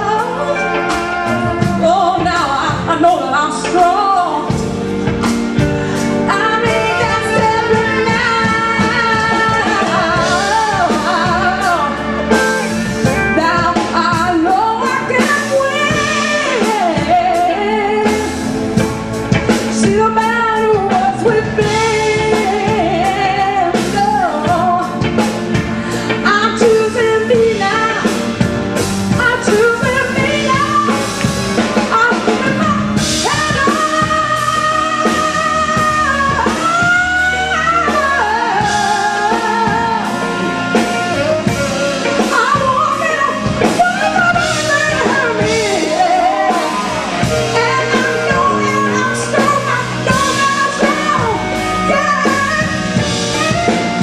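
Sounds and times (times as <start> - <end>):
drum kit: 0.0 - 54.0
electric guitar: 0.0 - 54.0
tenor saxophone: 0.0 - 54.0
woman singing into microphone: 0.0 - 54.0.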